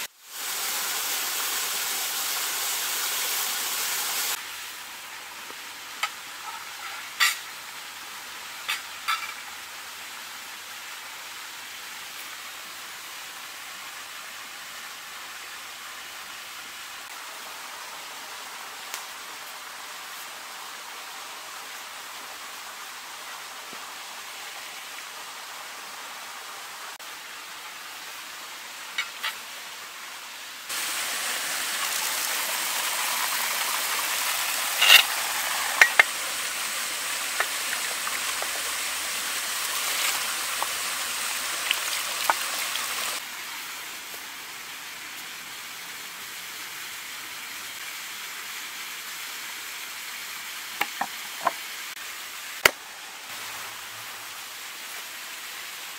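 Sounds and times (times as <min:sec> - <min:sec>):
faint steady hiss: 0:00.0 - 0:55.9.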